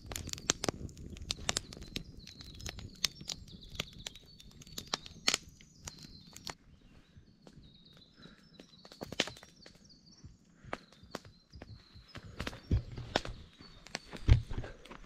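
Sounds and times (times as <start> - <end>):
campfire crackling and popping: 0.0 - 6.6, 7.3 - 15.0.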